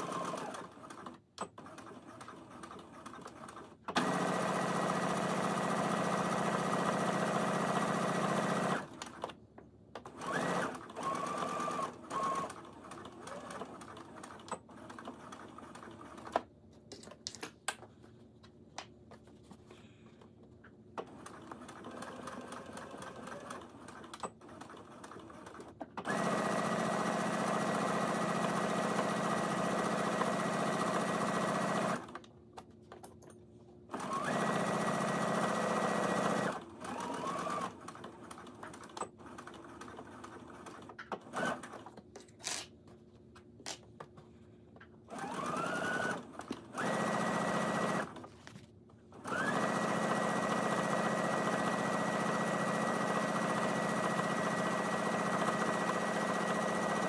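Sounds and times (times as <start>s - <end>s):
sewing machine stitching: 0.0s - 9.4s, 10.0s - 16.5s, 21.0s - 32.2s, 33.9s - 42.6s, 45.0s - 48.3s, 49.1s - 57.0s.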